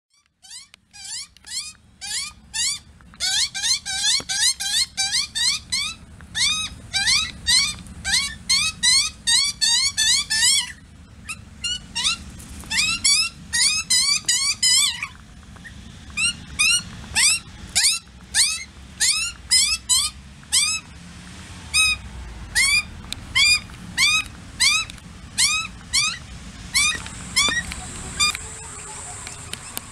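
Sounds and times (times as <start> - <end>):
young magpie squealing begging calls: 0.2 - 20.9, 21.7 - 29.9.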